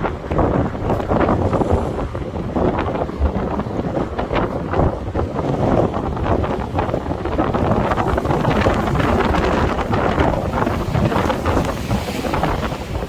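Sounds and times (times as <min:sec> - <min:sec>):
gusty wind buffeting microphone: 0:00.0 - 0:13.0
waves breaking on shore: 0:00.0 - 0:13.0.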